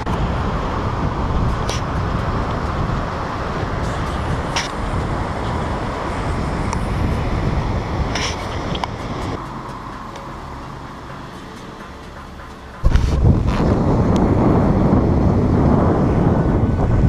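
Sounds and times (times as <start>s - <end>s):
wind buffeting microphone: 0.0s - 9.4s, 12.4s - 17.0s.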